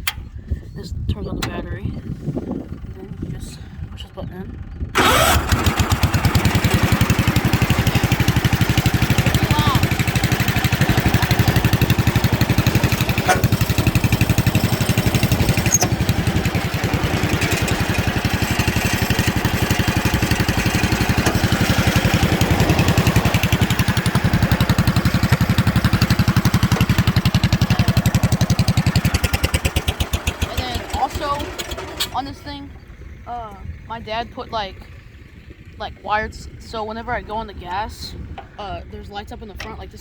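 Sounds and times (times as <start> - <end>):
tractor engine through open exhaust: 0.0 - 40.0.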